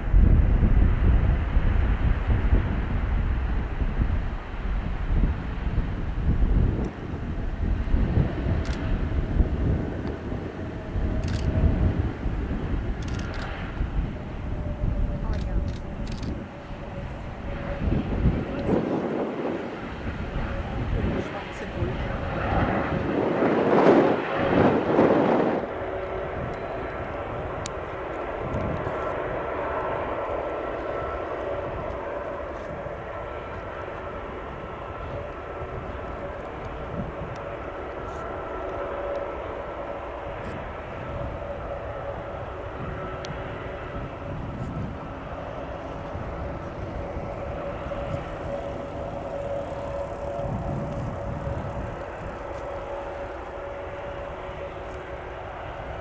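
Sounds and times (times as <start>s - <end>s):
airliner jet engines taxiing: 0.0s - 56.0s
faint steady tones: 8.4s - 56.0s.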